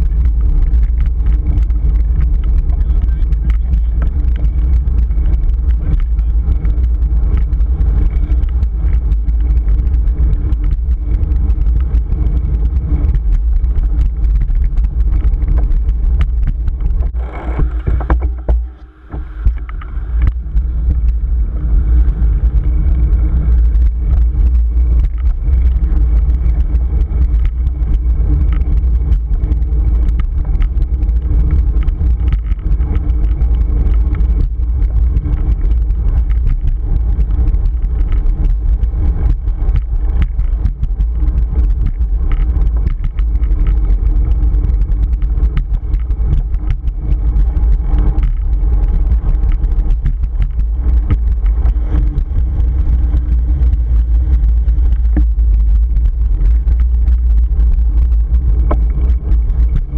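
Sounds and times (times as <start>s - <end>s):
tyre and road noise: 0.0s - 59.9s
wind rushing over camera: 0.0s - 59.9s.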